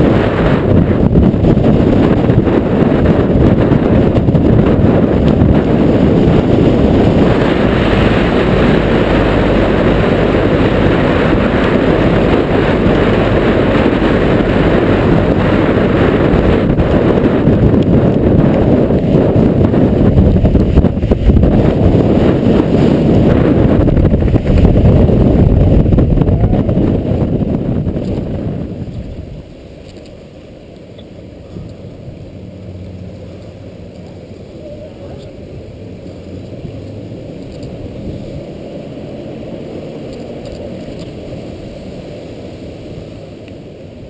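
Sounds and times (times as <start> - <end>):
bicycle road rumble: 0.0 - 44.0
passing car hum: 0.0 - 44.0
strong wind gusting on microphone: 0.0 - 44.0.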